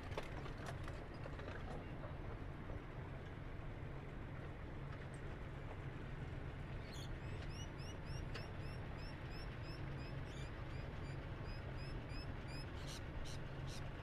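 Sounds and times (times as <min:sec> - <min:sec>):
train cars rolling with low rumble: 0:00.0 - 0:14.0.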